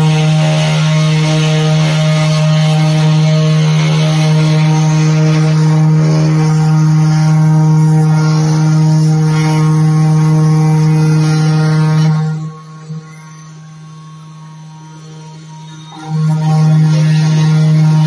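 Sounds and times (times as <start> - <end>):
router spindle motor whine: 0.0 - 18.0.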